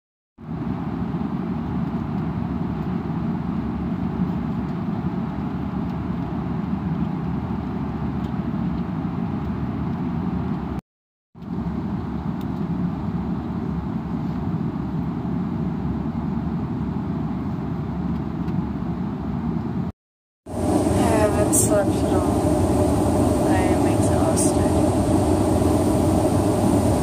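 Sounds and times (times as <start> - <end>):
airliner cabin jet engine rumble: 0.4 - 10.8, 11.5 - 19.9, 20.5 - 27.0.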